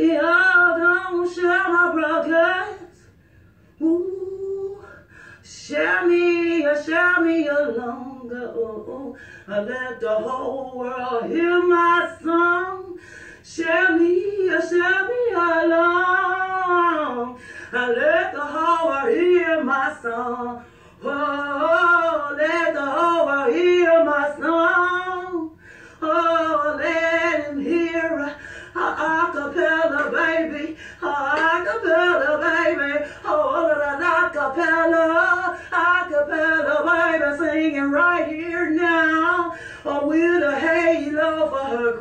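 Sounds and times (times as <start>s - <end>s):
woman singing: 0.0s - 3.1s, 3.8s - 42.0s.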